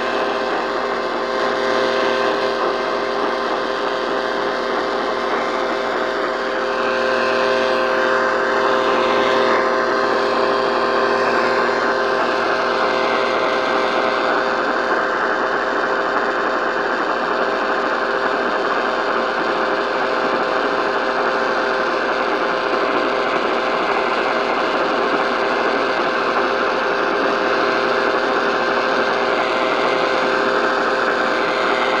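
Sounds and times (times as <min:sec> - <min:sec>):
radio static hiss: 0:00.0 - 0:21.3, 0:22.0 - 0:32.0
faint steady tones: 0:00.0 - 0:32.0.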